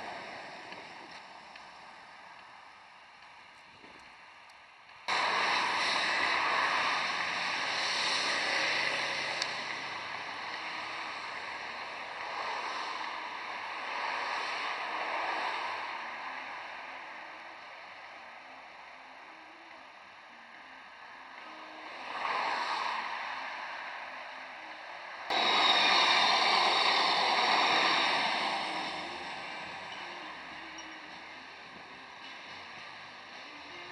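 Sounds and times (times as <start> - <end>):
tram rolling on track: 0.0 - 33.9.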